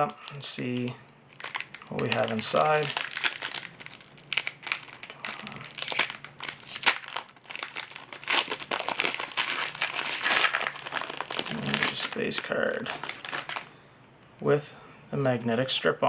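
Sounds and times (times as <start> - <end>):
wrapper crinkling and tearing: 0.0 - 13.7.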